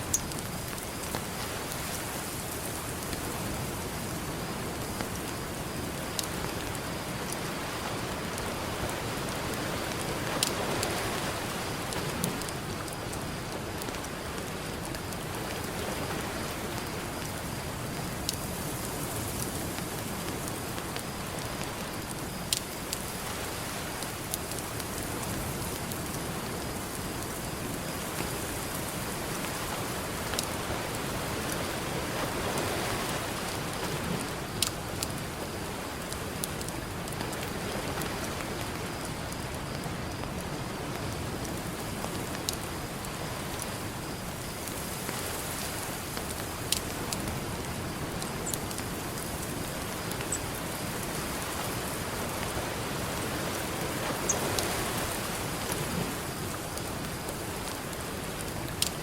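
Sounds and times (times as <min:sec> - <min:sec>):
campfire crackling and popping: 0:00.0 - 0:07.4, 0:16.3 - 0:31.6, 0:33.3 - 0:59.0
ocean surf: 0:00.0 - 0:17.6, 0:27.6 - 0:39.4, 0:40.7 - 0:59.0.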